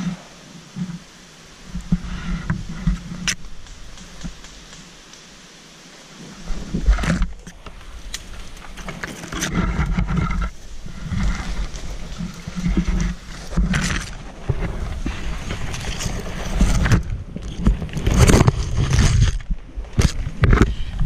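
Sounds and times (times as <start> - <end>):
branches rustling against camera: 0.0 - 21.0
crackles: 0.0 - 21.0.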